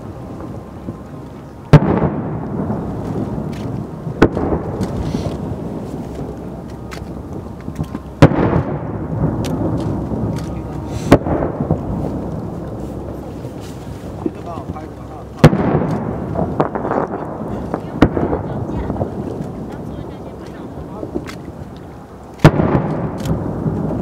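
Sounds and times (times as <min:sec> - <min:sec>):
rolling echo: 0:00.0 - 0:24.0
firework shells bursting: 0:01.7 - 0:12.8, 0:14.4 - 0:24.0
firework pops and crackles: 0:01.7 - 0:24.0.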